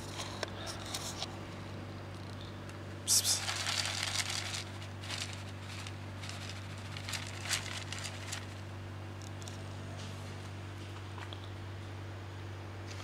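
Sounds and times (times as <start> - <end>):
handling rustles and crackles: 0.0 - 1.4, 2.1 - 11.4
steady low hum: 0.0 - 13.0.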